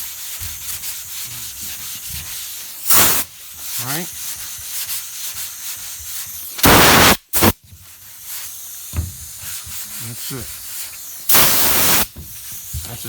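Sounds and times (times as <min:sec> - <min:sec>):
sandpaper rubbing back and forth: 0:00.0 - 0:13.0.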